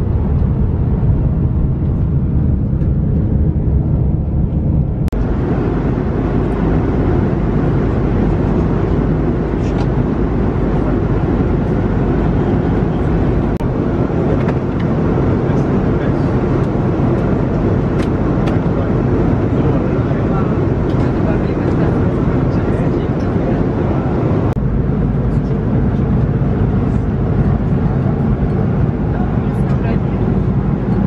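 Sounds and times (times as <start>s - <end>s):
air rushing in cabin: 0.0s - 31.0s
jet engine cabin drone: 0.0s - 31.0s.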